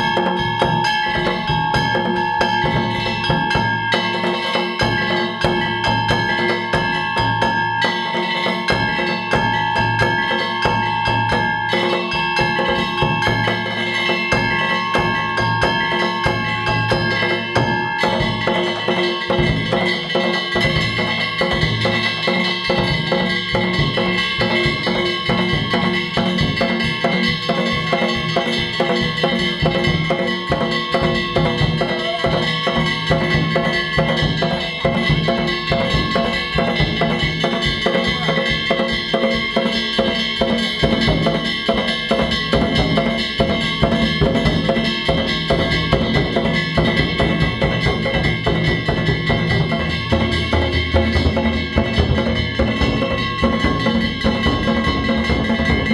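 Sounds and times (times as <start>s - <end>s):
clanging hand gongs: 0.0s - 55.9s
drums: 0.0s - 55.9s.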